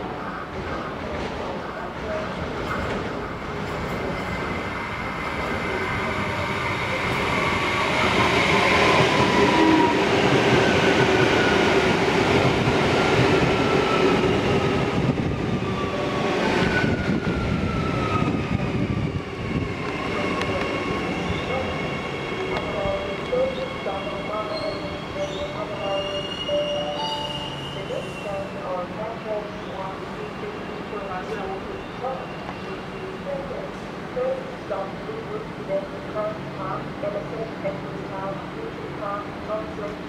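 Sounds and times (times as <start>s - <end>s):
electric train passing: 2.4s - 40.0s.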